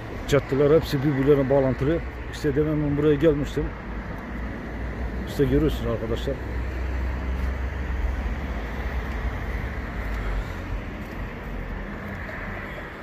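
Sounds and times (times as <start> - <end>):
street traffic rumble and hiss: 0.0 - 13.0.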